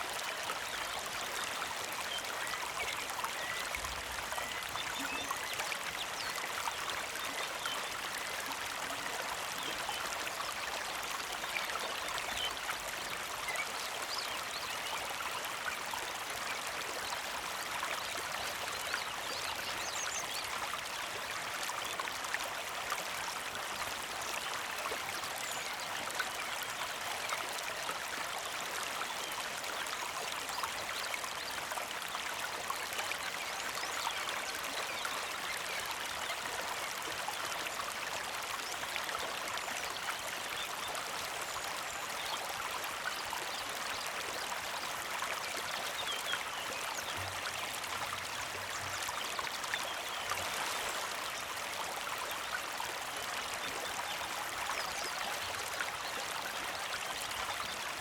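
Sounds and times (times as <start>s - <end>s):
creek trickling: 0.0s - 58.0s.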